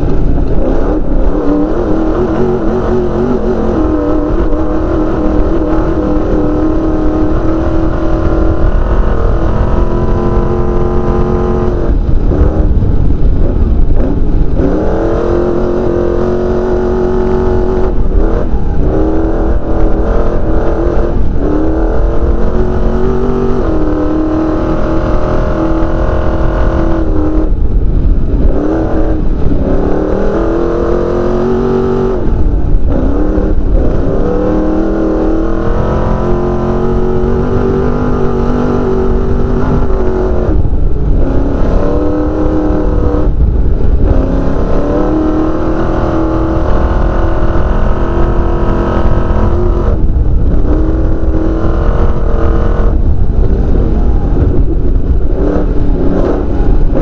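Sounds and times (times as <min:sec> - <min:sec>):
low rumble of car on dirt: 0:00.0 - 0:57.0
race car engine at full throttle: 0:00.0 - 0:57.0.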